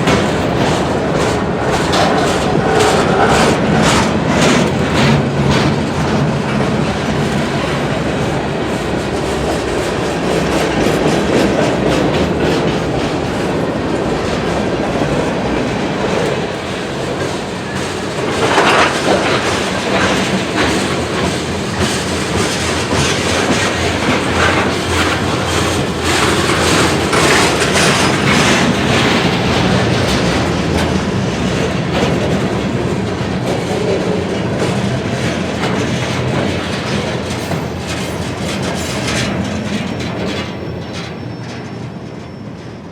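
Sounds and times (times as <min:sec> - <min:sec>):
low train rumble: 0:00.0 - 0:42.9
train wheels clicking over rail joints: 0:00.0 - 0:42.9.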